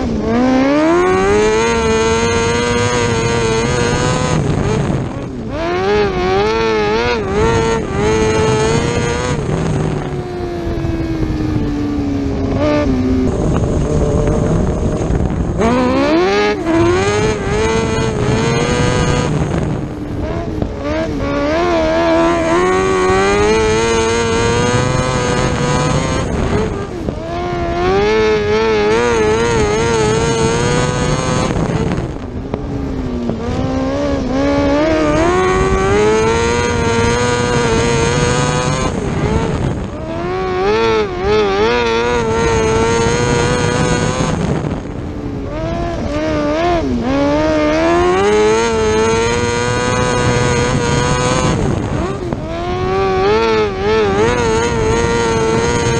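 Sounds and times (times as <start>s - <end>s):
racing car engine revving: 0.0s - 55.9s.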